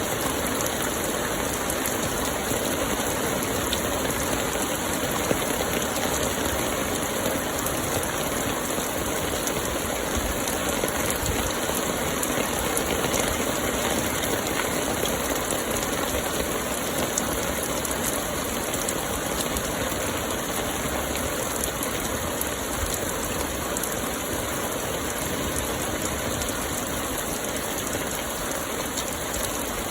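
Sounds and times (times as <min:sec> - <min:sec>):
light rain pattering: 0:00.0 - 0:29.9.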